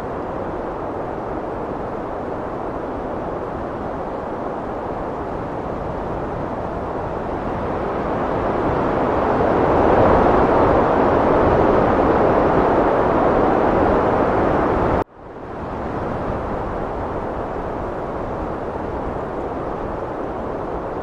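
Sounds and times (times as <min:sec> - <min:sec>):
heavy wind blowing: 0:00.0 - 0:21.0.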